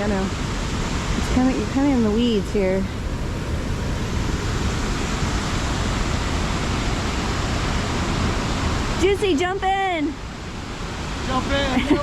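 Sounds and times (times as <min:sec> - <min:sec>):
fast-flowing creek water: 0:00.0 - 0:12.0.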